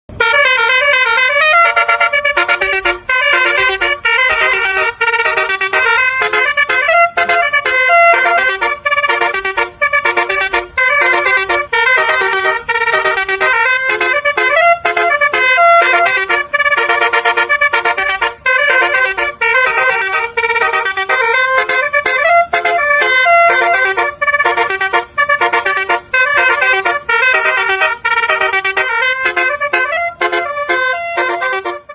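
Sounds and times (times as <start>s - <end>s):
bus musical horn melody: 0.1s - 31.9s.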